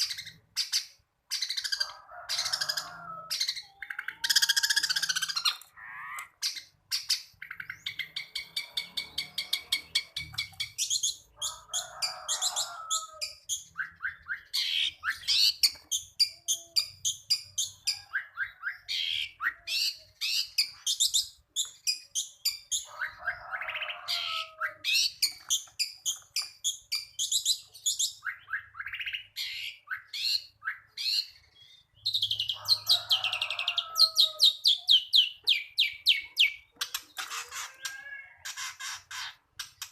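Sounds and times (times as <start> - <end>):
bird singing chirps and trills: 0.0 - 11.7, 12.5 - 39.9.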